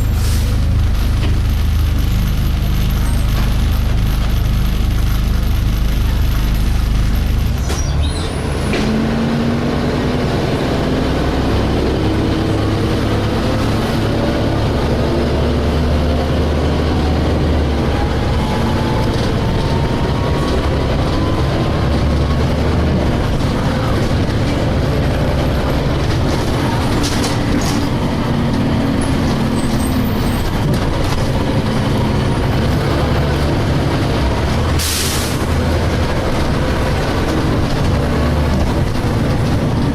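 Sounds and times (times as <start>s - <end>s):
bus diesel engine droning: 0.0s - 39.9s
rising engine whine: 0.0s - 39.9s.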